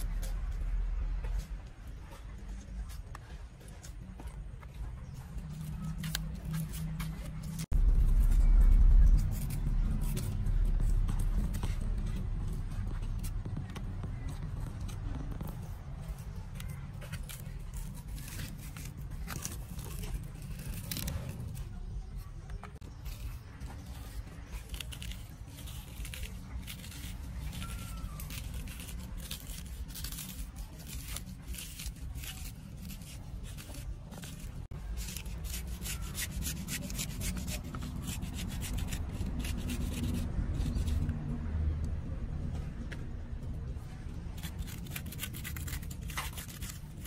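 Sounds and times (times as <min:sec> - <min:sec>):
knife scraping plant stalk: 0:05.0 - 0:21.9, 0:22.5 - 0:41.2, 0:44.2 - 0:47.0.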